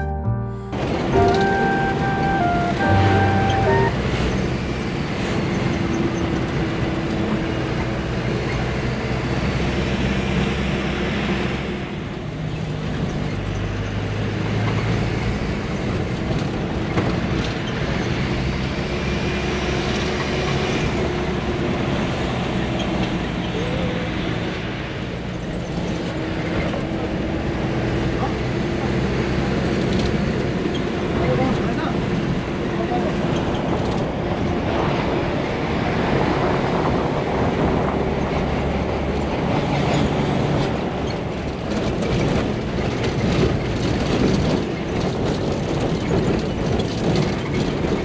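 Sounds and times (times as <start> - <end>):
diesel bus engine running: 0.0 - 48.0
road noise: 0.0 - 48.0.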